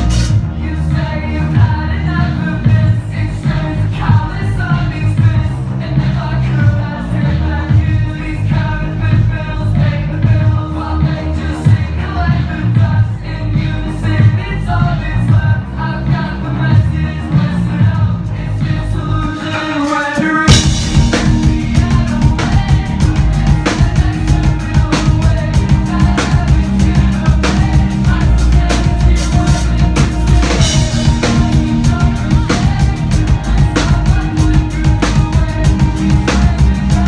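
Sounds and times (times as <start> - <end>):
drum kit beat: 0.0 - 37.0
heavy bass: 0.0 - 37.0
live band playing: 0.0 - 37.0
person singing: 0.0 - 37.0.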